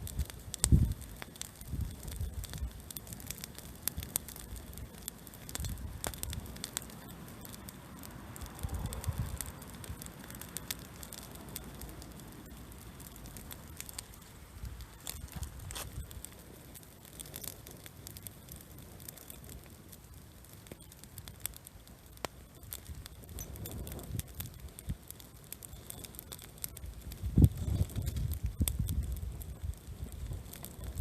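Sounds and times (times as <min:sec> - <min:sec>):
bonfire crackling and popping: 0:00.0 - 0:31.0.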